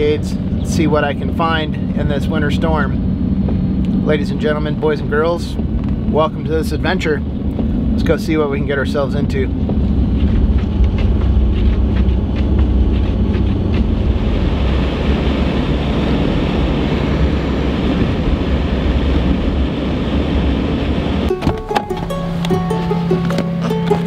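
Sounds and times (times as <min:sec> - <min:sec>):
van engine and road rumble: 0:00.0 - 0:24.0.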